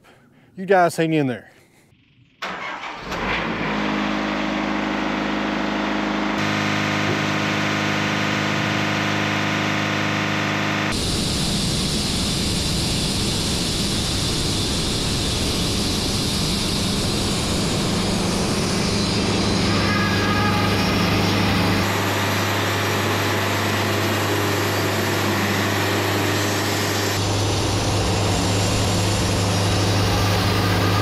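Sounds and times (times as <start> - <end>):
sawmill engine running: 2.4 - 31.0.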